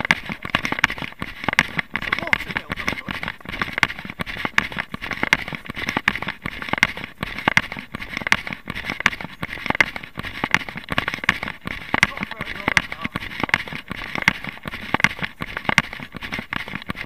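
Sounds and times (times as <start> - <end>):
handheld camera jostling: 0.0 - 17.0
running footsteps on tarmac: 0.0 - 17.0.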